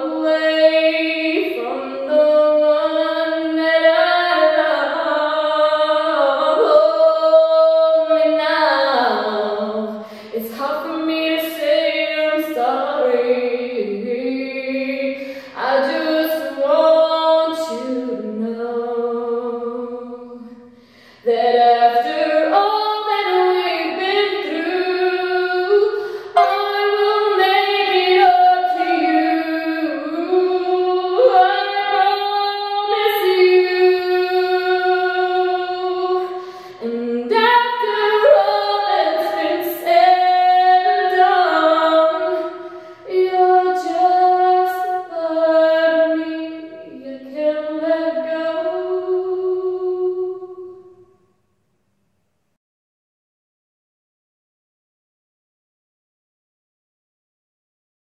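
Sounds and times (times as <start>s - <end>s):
woman singing a cappella: 0.0s - 51.2s.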